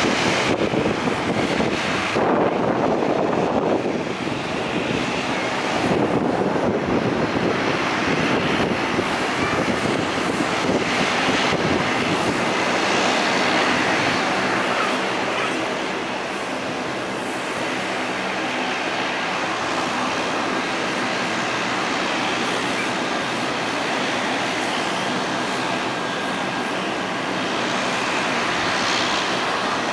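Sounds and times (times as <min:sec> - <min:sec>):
faint propeller hum: 0:00.0 - 0:29.9
turboprop engines droning: 0:00.0 - 0:29.9.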